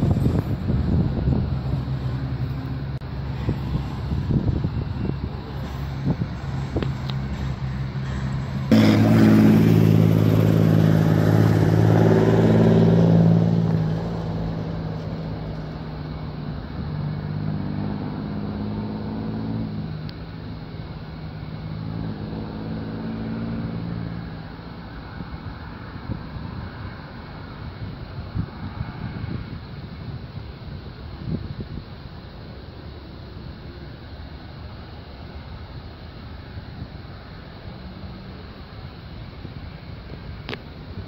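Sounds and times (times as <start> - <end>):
aircraft engines droning: 0.0 - 41.0.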